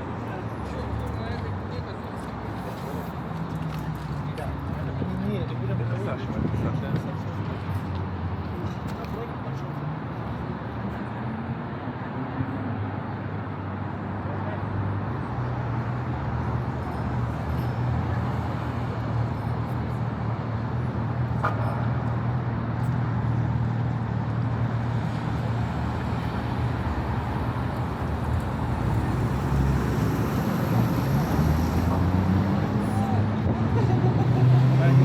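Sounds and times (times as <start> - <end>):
cars passing on busy street: 0.0 - 35.0.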